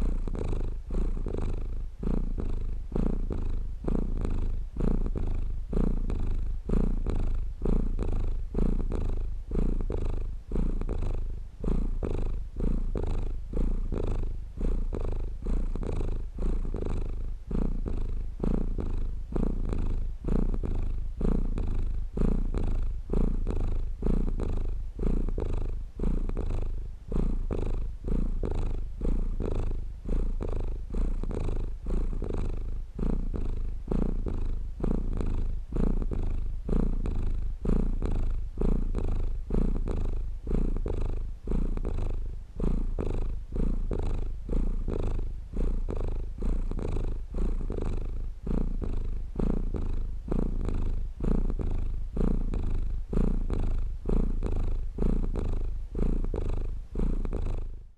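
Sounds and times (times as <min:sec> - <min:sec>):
cat purring: 0:00.0 - 0:57.9.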